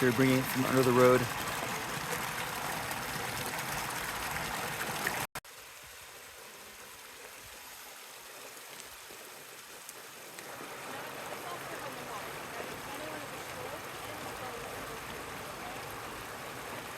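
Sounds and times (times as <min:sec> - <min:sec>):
stream flowing: 0:00.0 - 0:16.9
water rushing through pipes: 0:00.0 - 0:16.9.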